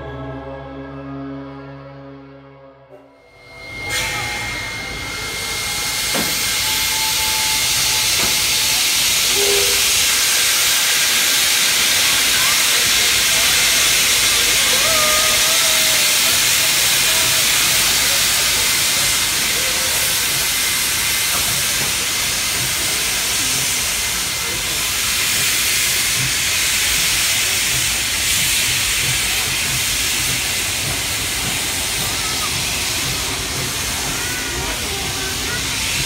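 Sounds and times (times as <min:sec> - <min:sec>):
carriages rumbling and knocking on rails: 0:03.0 - 0:36.0
steam hissing: 0:03.3 - 0:36.0.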